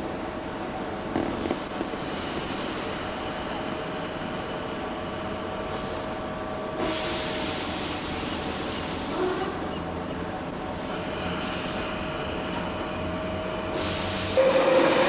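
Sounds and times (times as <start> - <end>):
train running hum: 0.0 - 15.0.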